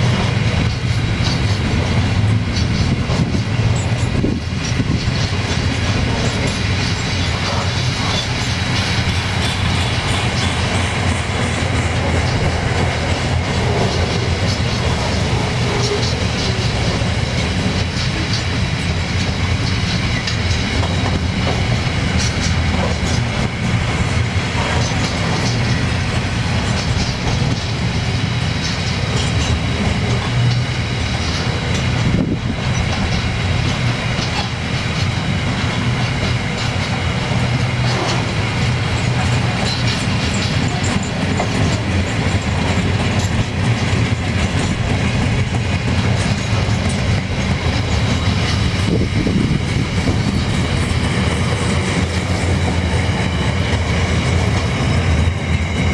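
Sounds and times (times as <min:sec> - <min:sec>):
freight wagons wheel-on-rail noise: 0:00.0 - 0:55.9.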